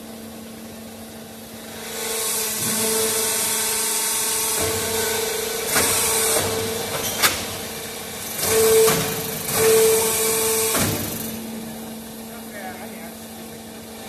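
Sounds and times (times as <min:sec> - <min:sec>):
brick-making machine humming: 0:00.0 - 0:14.0.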